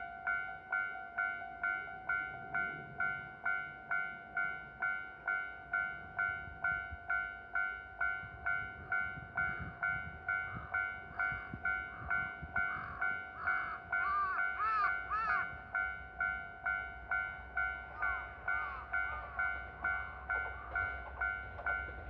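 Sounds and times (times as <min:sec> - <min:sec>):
diesel railcar rumbling: 0:00.0 - 0:22.0
level crossing bell ringing: 0:00.0 - 0:22.0.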